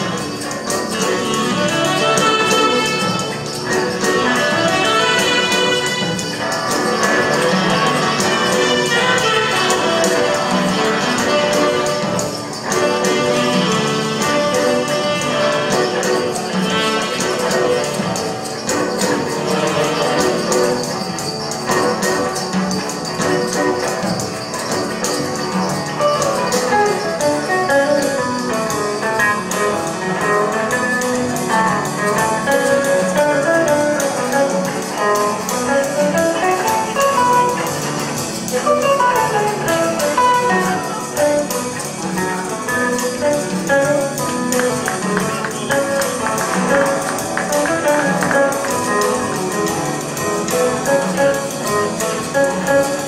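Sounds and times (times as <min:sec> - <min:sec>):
drums: 0:00.0 - 0:53.0
electric guitar runs: 0:00.0 - 0:53.0
shaken hand percussion: 0:00.0 - 0:53.0.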